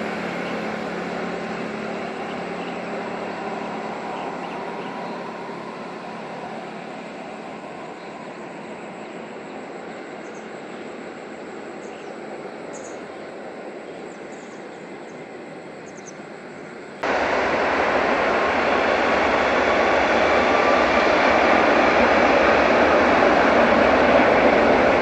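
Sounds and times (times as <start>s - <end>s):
distant jet engines rushing: 0.0s - 25.0s.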